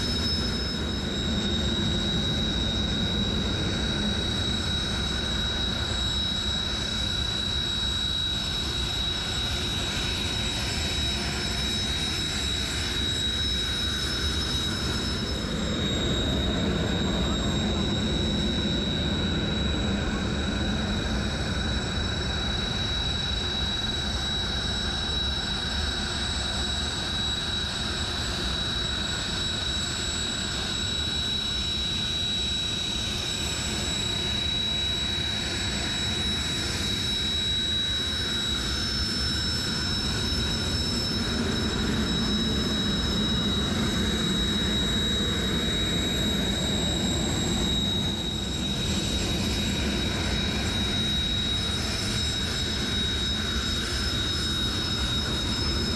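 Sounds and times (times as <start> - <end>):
jet engines whining: 0.0 - 55.9
second higher whine: 0.0 - 55.9.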